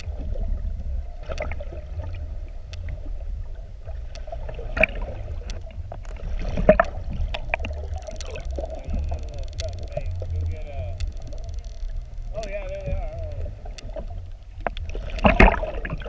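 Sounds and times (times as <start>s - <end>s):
bubbles: 0.0s - 16.0s
underwater rumble and hum: 0.0s - 16.0s.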